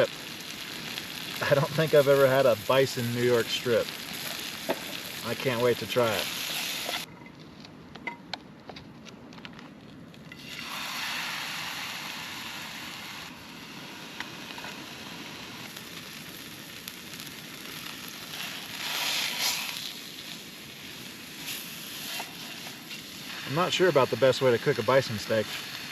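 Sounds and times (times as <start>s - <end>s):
food sizzling in a frying pan: 0.0s - 7.1s, 10.4s - 25.9s.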